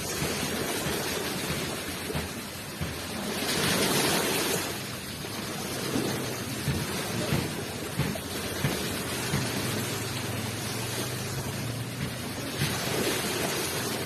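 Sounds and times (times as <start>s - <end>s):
ocean waves washing onto shore: 0.0s - 14.0s.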